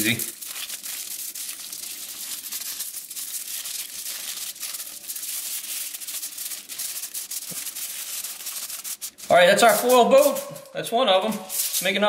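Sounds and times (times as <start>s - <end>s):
aluminum foil crinkling: 0.0s - 12.0s.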